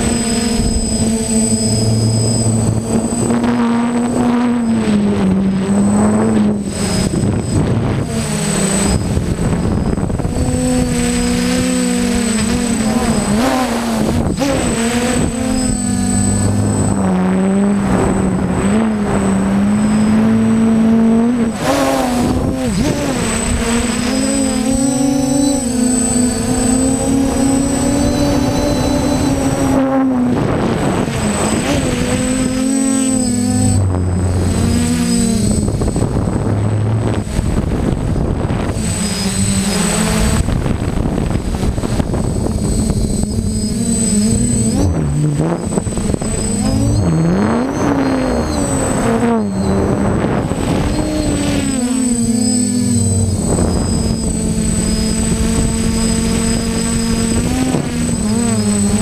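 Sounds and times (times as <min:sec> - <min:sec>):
drone propellers whirring: 0:00.0 - 0:59.0
high-pitched motor whine: 0:00.0 - 0:59.0.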